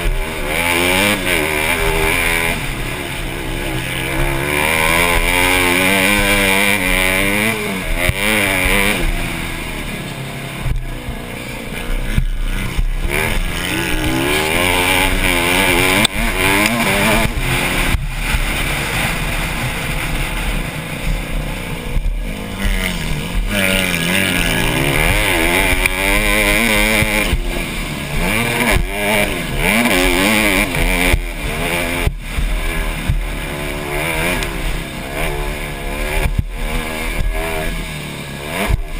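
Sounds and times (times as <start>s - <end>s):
dirt bike engine revving: 0.0s - 38.9s
steady rushing noise: 0.0s - 38.9s.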